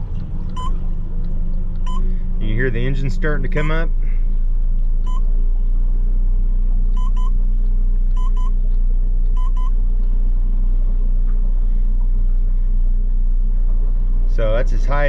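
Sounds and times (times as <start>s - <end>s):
outboard engine drone: 0.0s - 15.0s.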